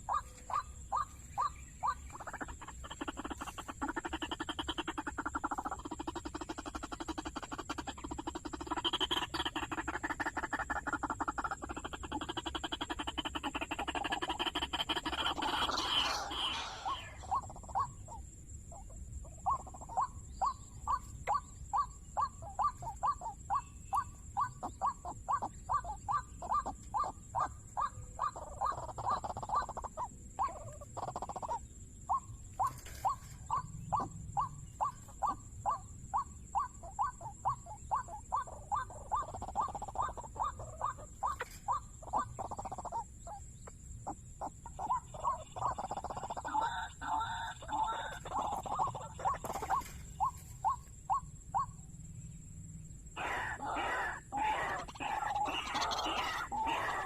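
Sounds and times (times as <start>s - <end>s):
waterhen calling: 0.0s - 17.9s, 19.5s - 43.1s, 44.6s - 51.7s, 53.2s - 57.0s.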